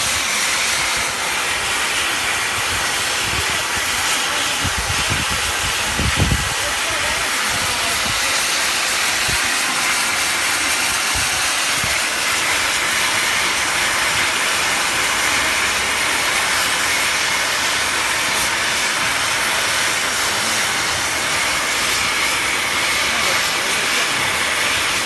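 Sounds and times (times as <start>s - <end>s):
flame cutting torch hissing: 0.0s - 25.0s.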